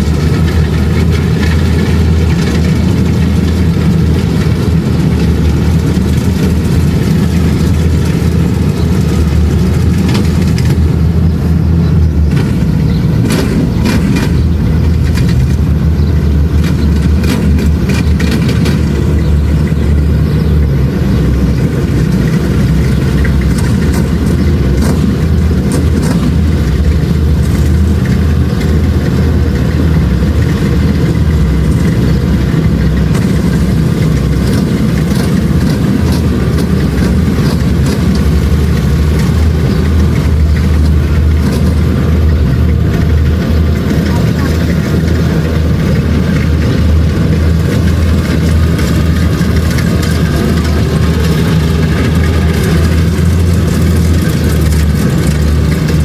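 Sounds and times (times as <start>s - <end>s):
combine harvester engine droning: 0.0s - 56.0s
sharp clicks and rattles: 0.0s - 56.0s.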